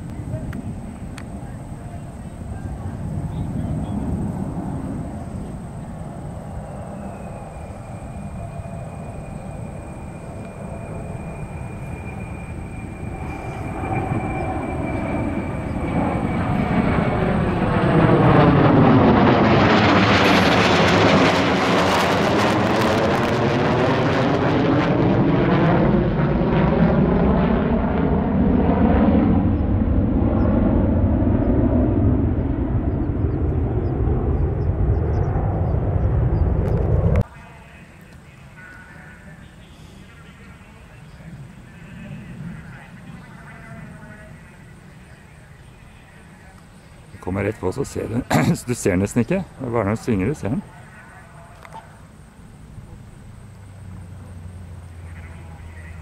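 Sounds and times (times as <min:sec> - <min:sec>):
jet aircraft flyby: 0:00.0 - 0:56.0.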